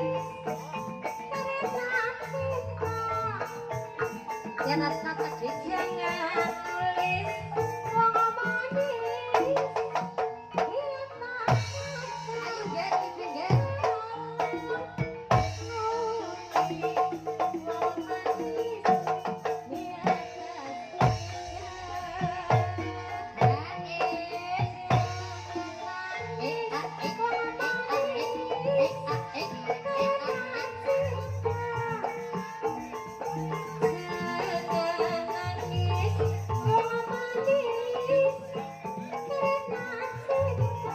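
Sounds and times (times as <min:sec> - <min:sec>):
hand drum strokes: 0:00.0 - 0:40.9.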